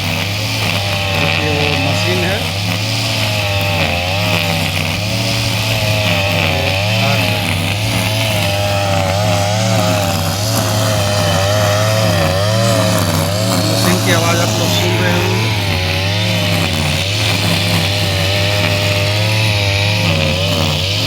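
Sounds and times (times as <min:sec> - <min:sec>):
brush cutter engine cutting grass: 0:00.0 - 0:21.0.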